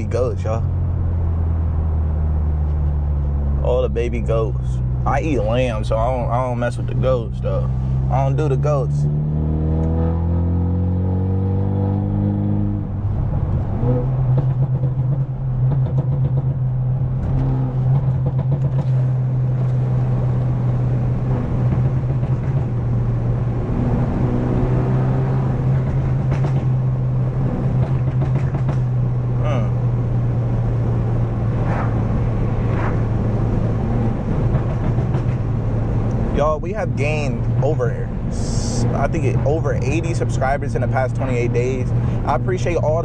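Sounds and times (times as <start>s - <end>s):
car exhaust engine note: 0.0s - 43.0s.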